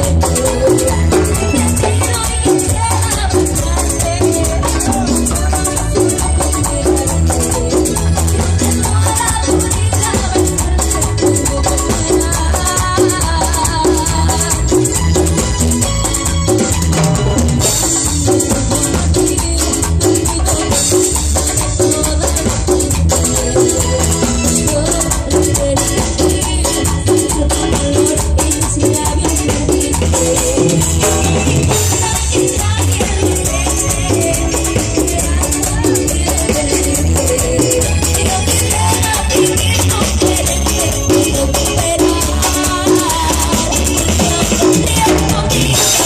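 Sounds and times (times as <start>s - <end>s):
drums: 0.0s - 46.0s
latin dance orchestra playing: 0.0s - 46.0s.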